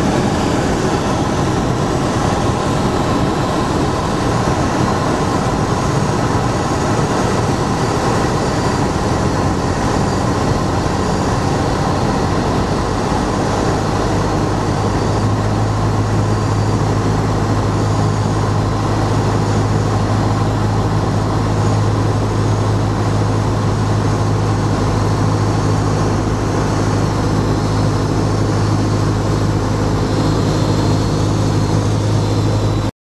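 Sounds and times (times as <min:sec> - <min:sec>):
steady engine drone: 0:00.0 - 0:32.9.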